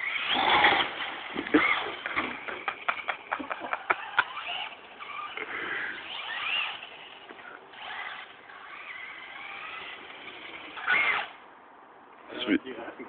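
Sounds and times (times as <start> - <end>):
electric motor whining: 0.0 - 11.4.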